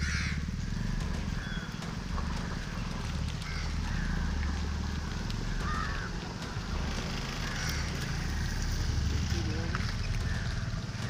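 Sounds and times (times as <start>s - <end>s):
low rumble on microphone: 0.0s - 11.0s.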